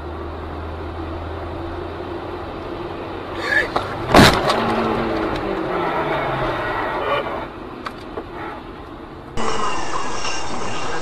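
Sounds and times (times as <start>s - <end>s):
road drone: 0.0s - 11.0s
traffic noise: 0.0s - 11.0s.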